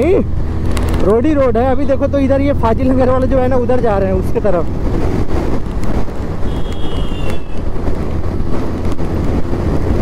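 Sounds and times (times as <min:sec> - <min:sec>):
motorcycle engine: 0:00.0 - 0:10.0
road noise: 0:00.0 - 0:10.0
wind rushing over microphone: 0:00.0 - 0:10.0.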